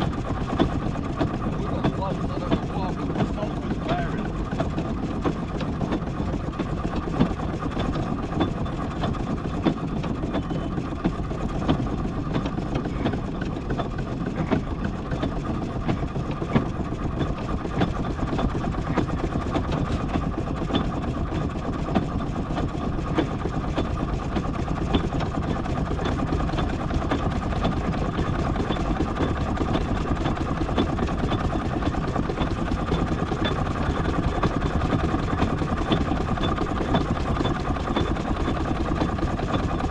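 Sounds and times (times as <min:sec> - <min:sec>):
small steam engine running: 0:00.0 - 0:39.9.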